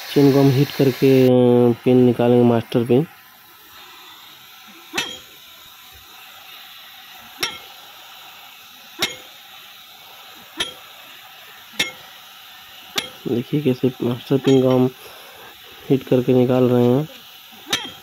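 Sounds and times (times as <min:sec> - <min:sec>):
gas torch hissing: 0:00.0 - 0:18.0.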